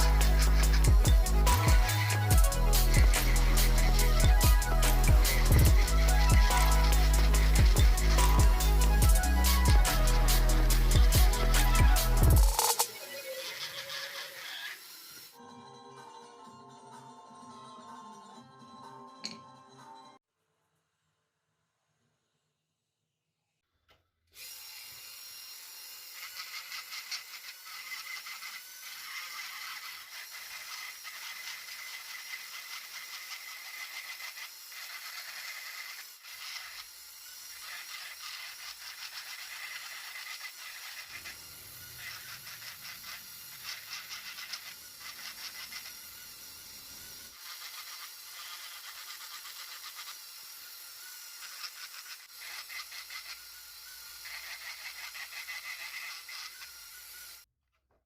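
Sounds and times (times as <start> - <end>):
tool scraping wood: 0.0 - 15.4, 26.0 - 50.4, 51.0 - 58.0.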